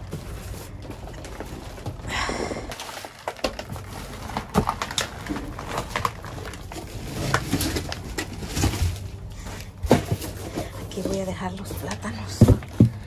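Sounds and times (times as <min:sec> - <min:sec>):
plastic bags rustling: 0:00.0 - 0:13.0.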